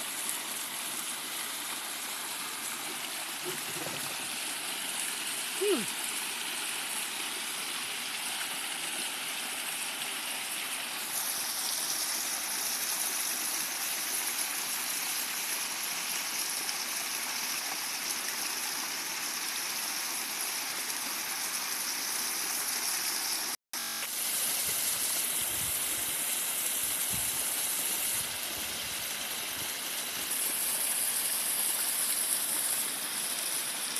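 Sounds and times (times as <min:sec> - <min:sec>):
stream splashing over rocks: 0:00.0 - 0:23.6, 0:24.4 - 0:33.9.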